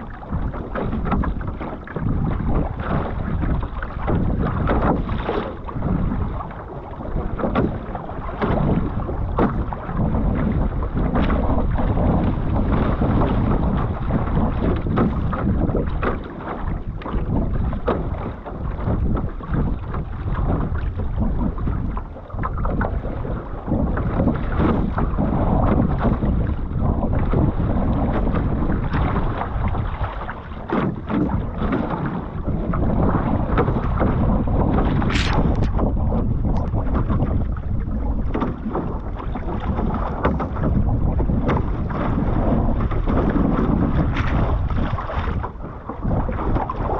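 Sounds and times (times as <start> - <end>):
paddle and wave splashes: 0.0 - 46.9
water splashing along hull: 0.0 - 46.9
wind buffeting microphone: 0.0 - 46.9.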